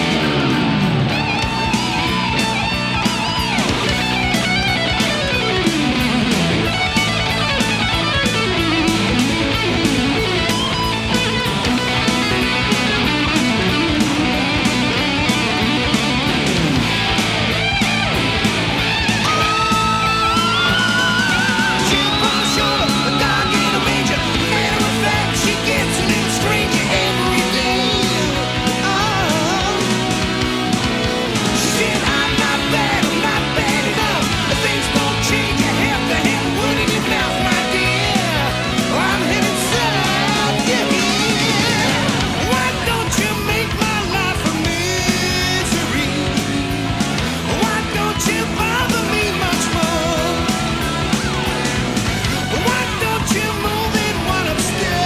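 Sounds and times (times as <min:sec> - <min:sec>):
bass guitar: 0:00.0 - 0:55.0
drum beat: 0:00.0 - 0:55.0
electric guitar bent notes: 0:00.0 - 0:55.0.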